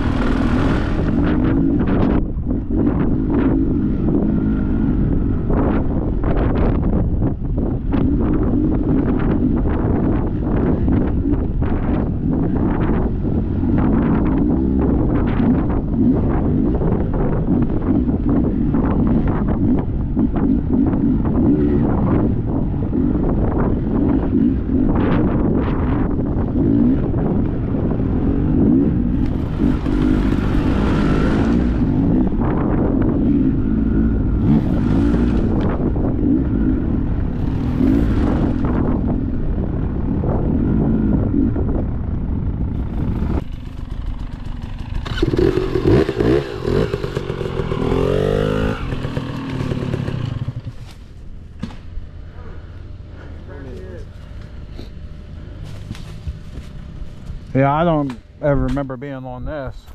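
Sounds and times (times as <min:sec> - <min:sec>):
dirt bike engine revving: 0:00.0 - 0:06.8, 0:07.9 - 0:41.8, 0:42.6 - 0:50.9.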